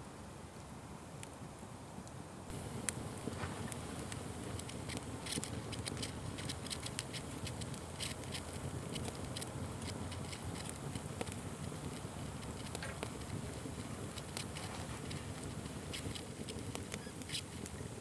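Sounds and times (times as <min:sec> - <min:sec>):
fire crackling and popping: 0:00.5 - 0:18.0.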